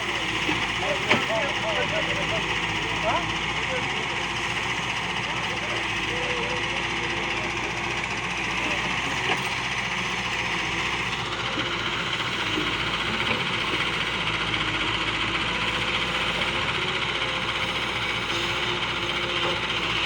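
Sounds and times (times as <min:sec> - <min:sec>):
heavy diesel machinery drone: 0:00.0 - 0:20.0.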